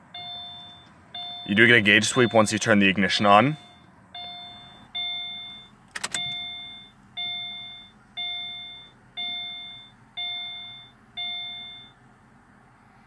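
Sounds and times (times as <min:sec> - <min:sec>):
dashboard warning chime: 0:00.1 - 0:12.0.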